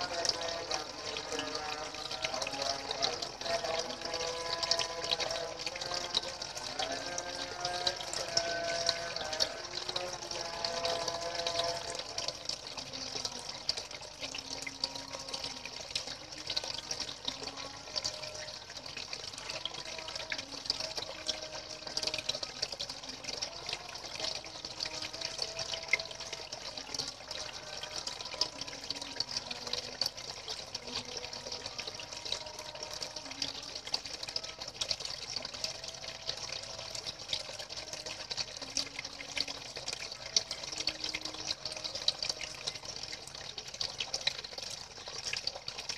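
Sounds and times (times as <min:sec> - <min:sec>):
water jets splashing into pond: 0:00.0 - 0:45.9.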